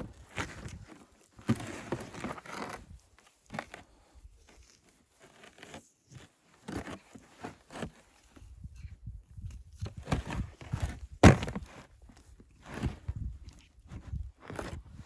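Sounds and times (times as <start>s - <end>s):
rustling and crunching: 0.0s - 8.6s, 9.4s - 15.0s.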